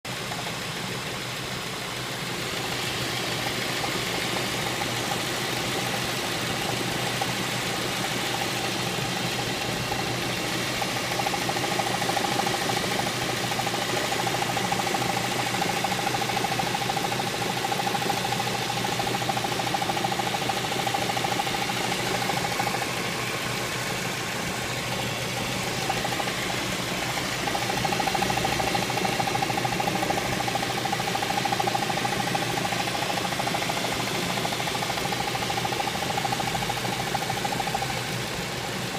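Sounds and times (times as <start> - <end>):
car engine running: 0.1 - 38.9.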